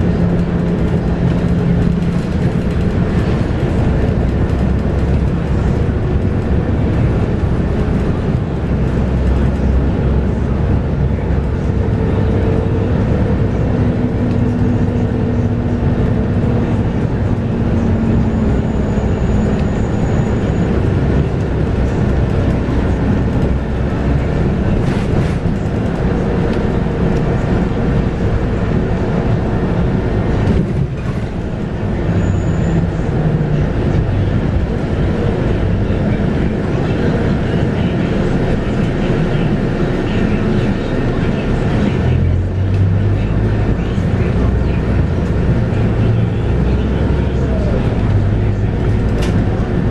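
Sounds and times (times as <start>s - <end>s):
bus diesel engine running: 0.0s - 49.9s
road noise: 0.0s - 49.9s.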